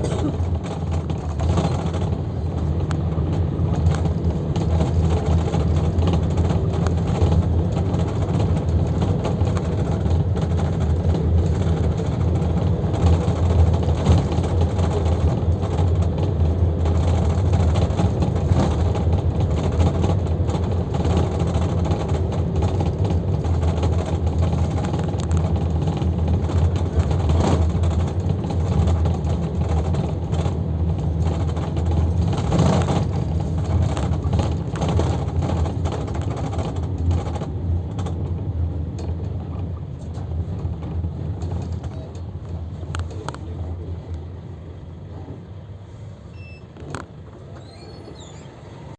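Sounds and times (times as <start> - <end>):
bus engine and road noise: 0.0 - 48.9.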